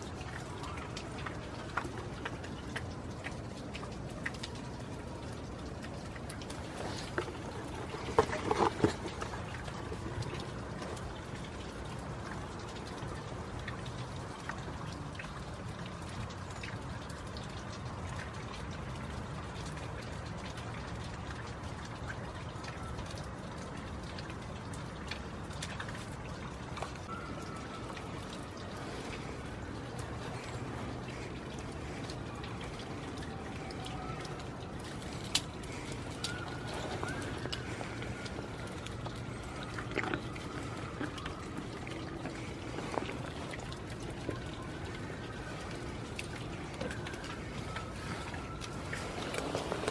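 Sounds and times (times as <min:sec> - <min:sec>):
raindrops ticking: 0:00.0 - 0:49.9
steady rain falling: 0:00.0 - 0:49.9.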